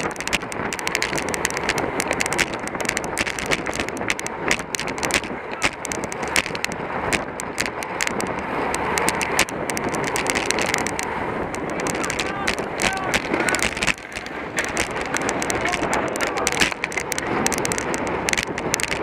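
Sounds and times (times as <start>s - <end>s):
bicycle clicks and rattles: 0.0s - 19.0s
wind rushing over microphone: 0.0s - 19.0s.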